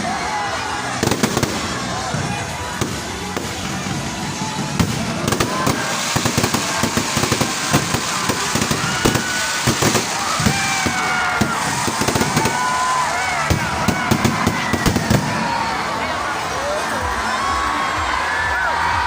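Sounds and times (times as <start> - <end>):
fireworks bangs and crackling: 0.1 - 16.8.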